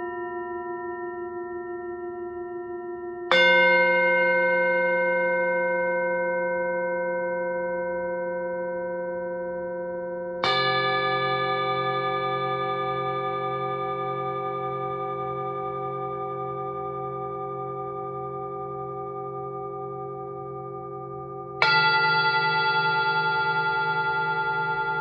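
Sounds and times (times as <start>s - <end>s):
singing bowls ringing: 0.0s - 9.3s, 9.9s - 25.0s.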